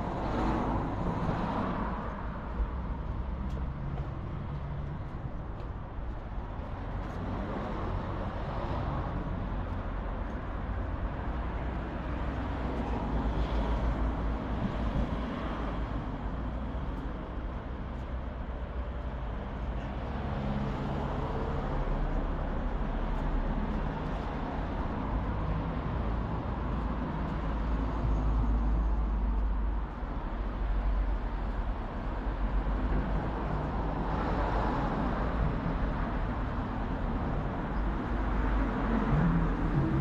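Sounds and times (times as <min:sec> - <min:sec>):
cars driving along road: 0:00.0 - 0:40.0
low traffic rumble: 0:00.0 - 0:40.0.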